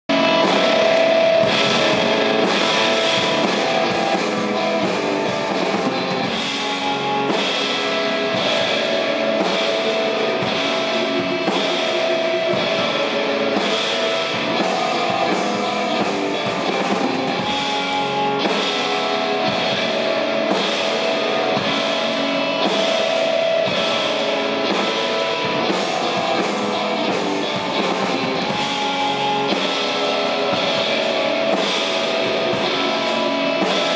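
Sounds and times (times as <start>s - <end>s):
electric guitar held notes: 0.0s - 33.9s
busy drumming: 0.1s - 33.9s.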